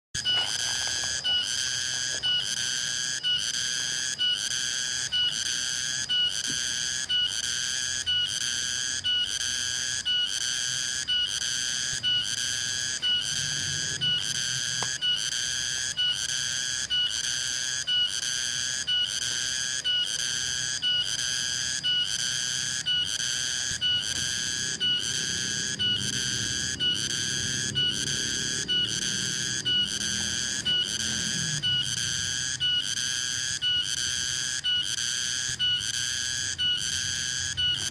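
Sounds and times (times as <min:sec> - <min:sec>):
cicada buzzing: 0:00.2 - 0:37.9.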